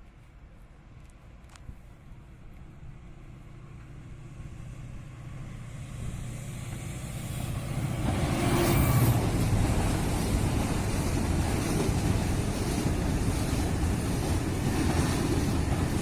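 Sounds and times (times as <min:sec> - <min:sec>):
freight train rumbling past: 0:02.4 - 0:16.0.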